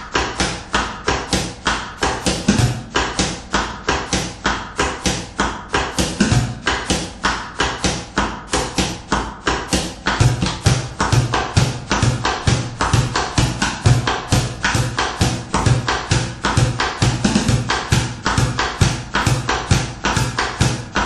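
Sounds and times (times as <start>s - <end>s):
deep hits on bucket bottoms: 0.3s - 21.0s.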